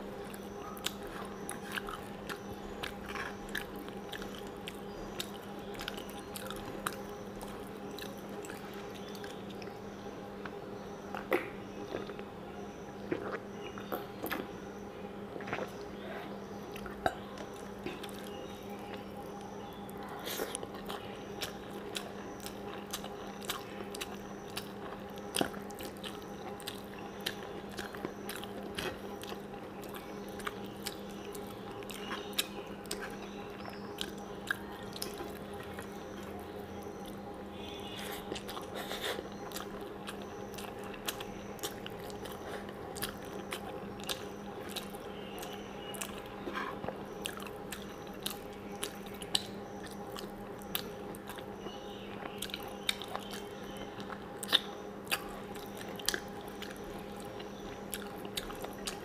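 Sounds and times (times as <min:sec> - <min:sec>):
person chewing: 0:00.0 - 0:09.8, 0:10.4 - 0:12.2, 0:13.1 - 0:14.5, 0:15.4 - 0:19.1, 0:19.7 - 0:59.0
steady low hum: 0:00.0 - 0:59.0.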